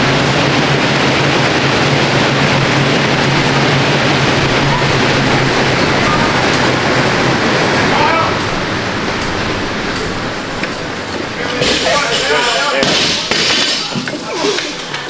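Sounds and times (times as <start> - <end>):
air bike fans whooshing: 0.0 - 15.0
constant low hum: 0.0 - 15.0.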